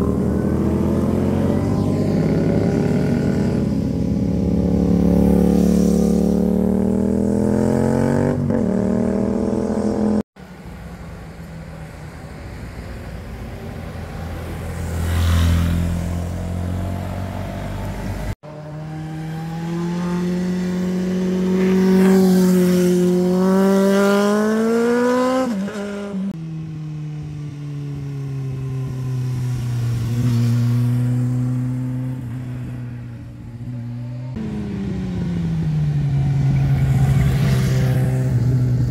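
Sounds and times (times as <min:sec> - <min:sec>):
motorcycles passing: 0:00.0 - 0:38.9.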